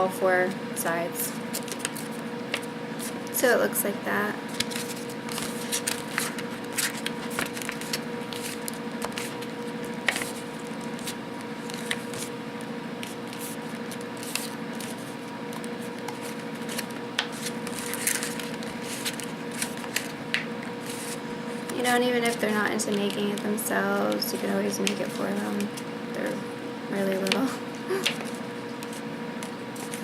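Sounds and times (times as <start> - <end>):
steady hum: 0.0 - 30.0
paper folding and crackling: 1.5 - 3.2, 4.5 - 12.3, 13.0 - 25.8, 27.1 - 30.0.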